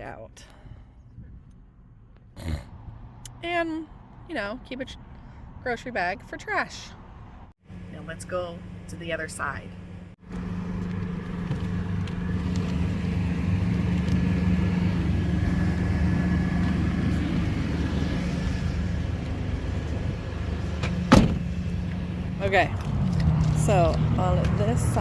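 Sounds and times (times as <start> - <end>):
motor vehicle hum: 0.5 - 25.0.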